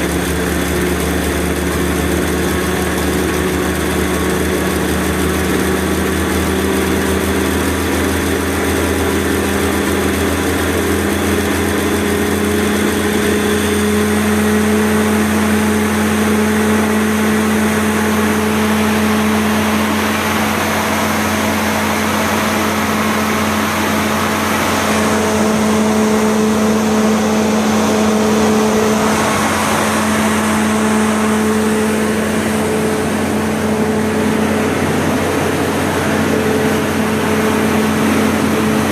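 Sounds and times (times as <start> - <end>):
generator engine humming: 0.0 - 38.9.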